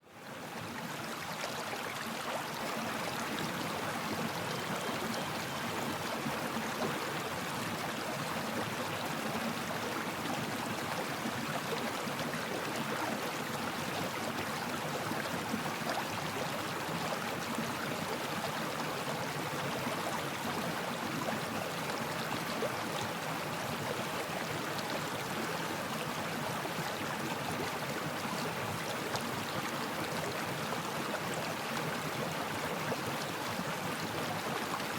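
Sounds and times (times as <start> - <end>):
flowing stream water: 0.0 - 34.9.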